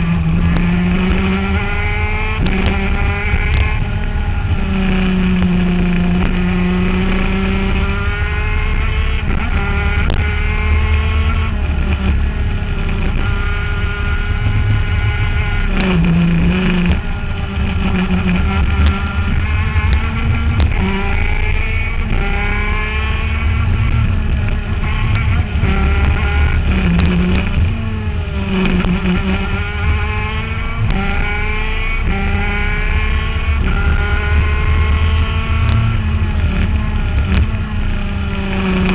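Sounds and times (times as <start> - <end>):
two-stroke kart engine revving: 0.0 - 38.9.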